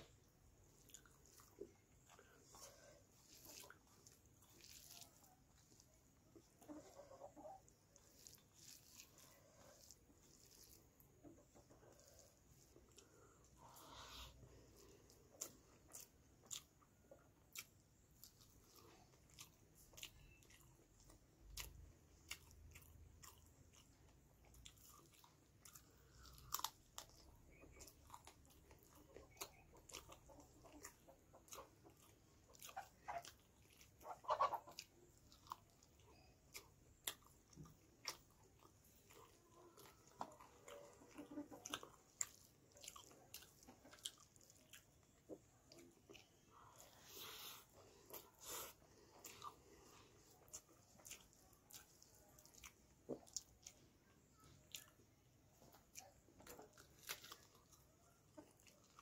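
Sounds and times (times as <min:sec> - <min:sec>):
fingers squishing rice: 0:00.0 - 0:59.0
wet chewing and mouth smacks: 0:00.0 - 0:59.0.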